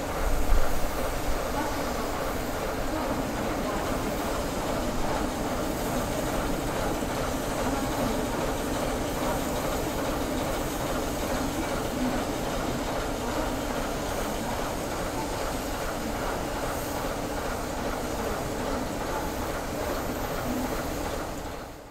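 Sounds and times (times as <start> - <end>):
diesel locomotive engine running: 0.0 - 21.9.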